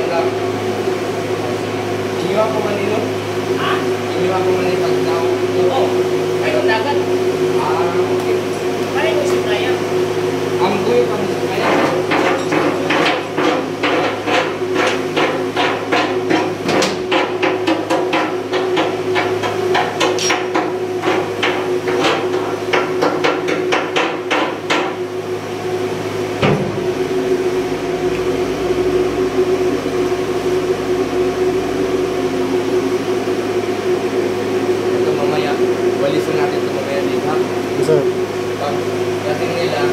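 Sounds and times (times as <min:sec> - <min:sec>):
machinery hum: 0:00.0 - 0:39.9.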